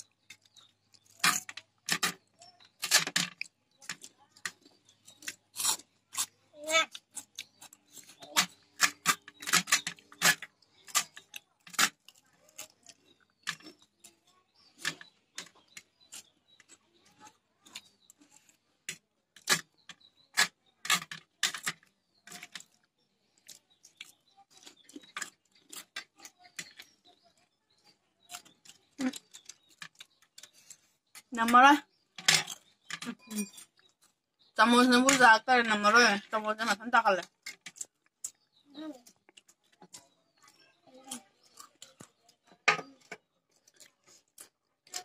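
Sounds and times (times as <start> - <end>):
crunchy chewing: 0.0 - 31.3, 32.0 - 34.6, 37.2 - 45.0.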